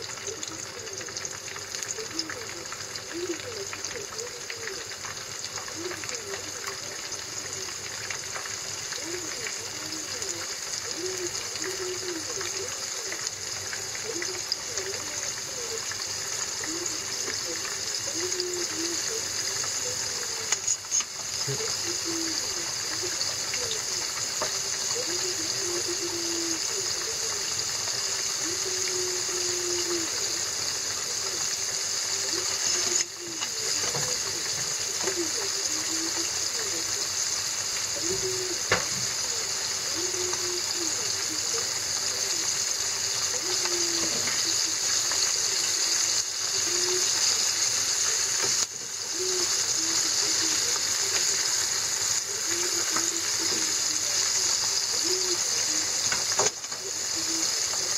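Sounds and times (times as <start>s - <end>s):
fish sizzling in a frying pan: 0.0s - 57.9s.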